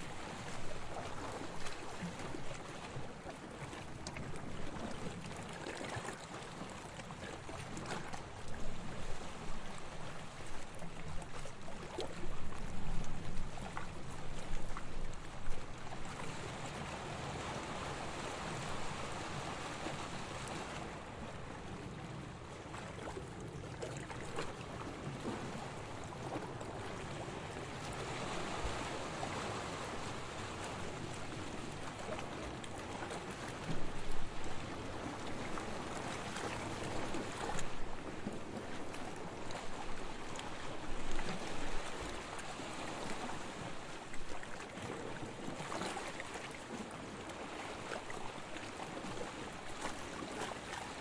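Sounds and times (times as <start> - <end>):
water splashes: 0.0 - 51.0
waves washing onto beach: 0.0 - 51.0.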